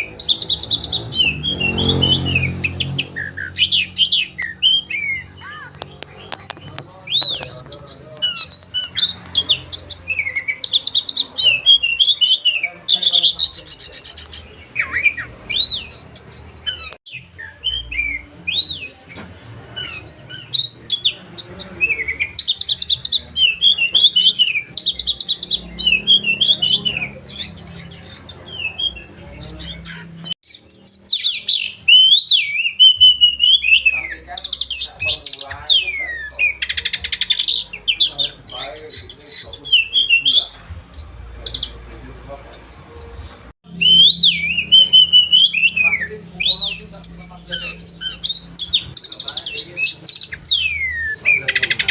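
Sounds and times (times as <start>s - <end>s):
songbird singing varied song: 0.0s - 42.0s, 43.0s - 51.9s.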